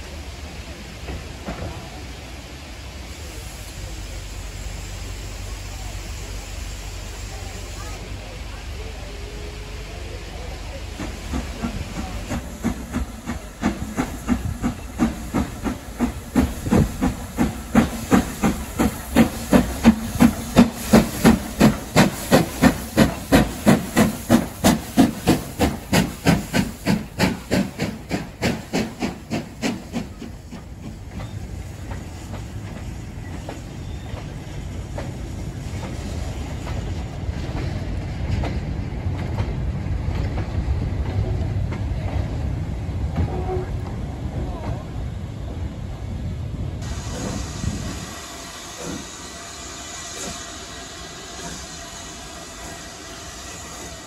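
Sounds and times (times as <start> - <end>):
steam hissing: 0.0 - 43.9, 46.8 - 54.0
steam locomotive chuffing: 0.0 - 45.8, 46.8 - 54.0
wagons rumbling over rails: 0.0 - 54.0.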